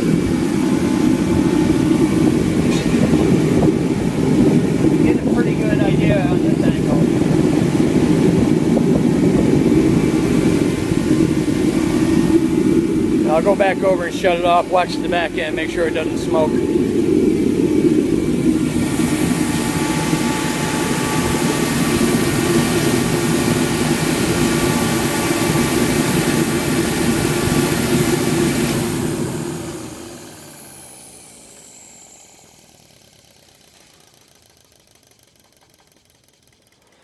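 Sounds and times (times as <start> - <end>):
fan winding down whine: 0.0 - 37.0
forced-air heater running: 0.0 - 37.0.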